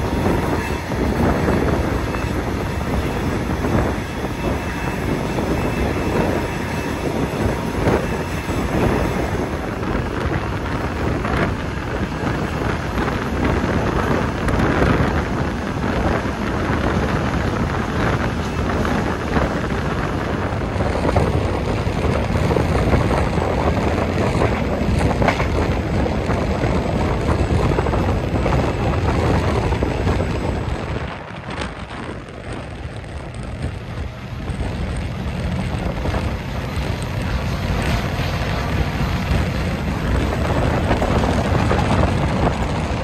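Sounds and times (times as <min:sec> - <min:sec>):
passenger train rumbling: 0:00.0 - 0:43.0
rushing wind noise: 0:00.0 - 0:43.0.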